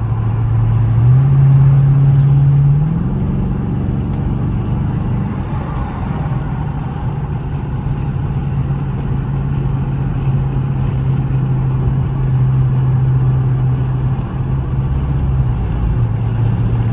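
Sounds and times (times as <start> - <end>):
car engine droning while cruising: 0.0 - 16.9.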